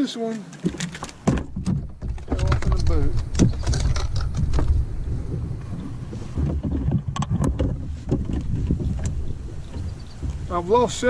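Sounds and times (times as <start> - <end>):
knocks and clunks in a canoe: 0.2 - 11.0
wind rumbling on microphone: 0.7 - 11.0.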